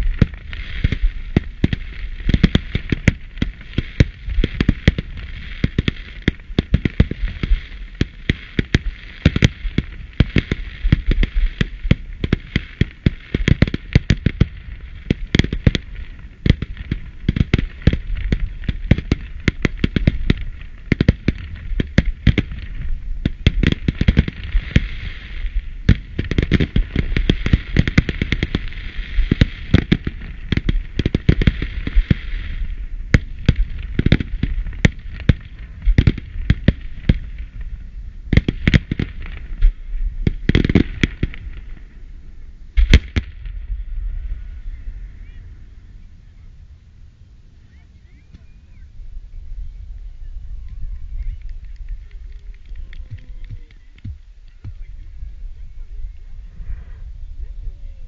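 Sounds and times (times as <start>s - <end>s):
fireworks bursting: 0.0s - 46.5s, 47.6s - 58.0s
crackling hiss: 0.0s - 58.0s.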